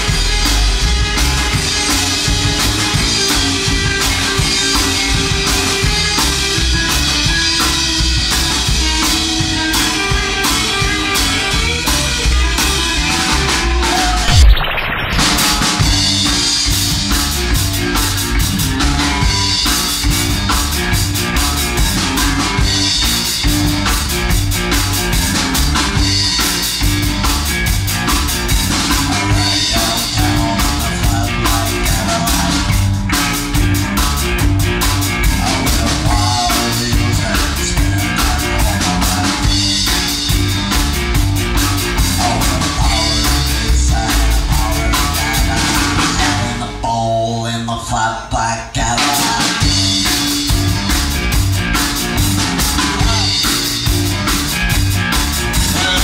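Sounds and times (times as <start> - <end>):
rockabilly band music: 0.0 - 14.6, 15.2 - 56.0
drum kit steady beat: 0.0 - 46.6, 49.0 - 56.0.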